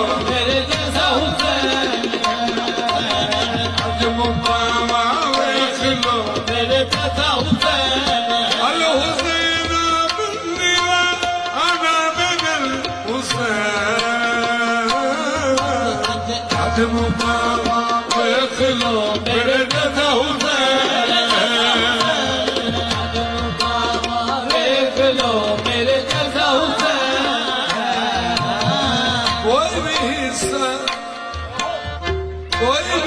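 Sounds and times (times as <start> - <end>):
harmonium drone: 0.0 - 33.0
ornamented singing: 0.0 - 33.0
tabla drumming: 0.0 - 33.0.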